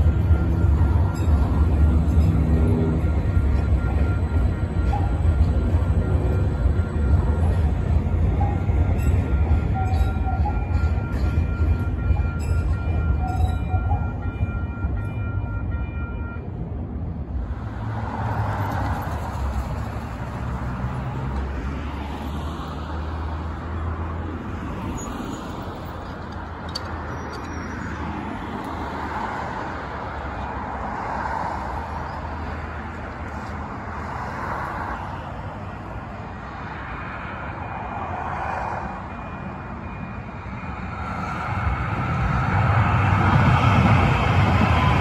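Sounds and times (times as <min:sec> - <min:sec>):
cars passing: 0:00.0 - 0:45.0
light-rail train rumble: 0:00.0 - 0:45.0.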